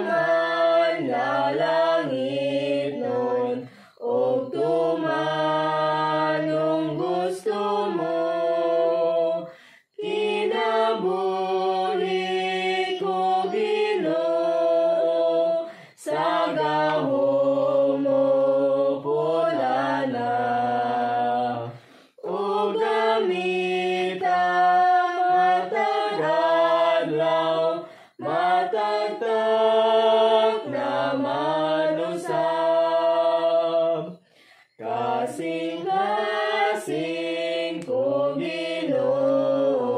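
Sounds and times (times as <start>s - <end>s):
voices singing a hymn unaccompanied: 0.0s - 39.9s.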